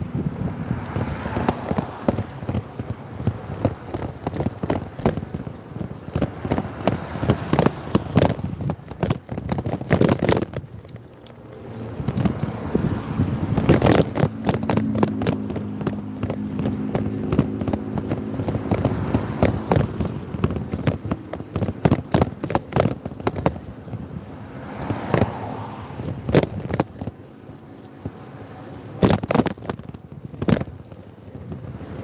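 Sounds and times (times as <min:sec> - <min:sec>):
motorbike engine: 0:00.0 - 0:32.0
rushing background noise: 0:00.0 - 0:32.0
sharp crackles and knocks: 0:00.0 - 0:32.0
wind buffeting microphone: 0:00.0 - 0:32.0.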